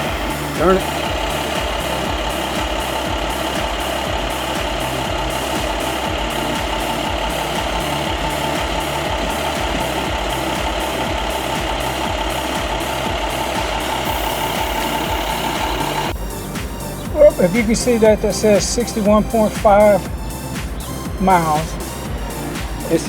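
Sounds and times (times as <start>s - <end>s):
engine idling with knocking pulse: 0.0s - 23.0s.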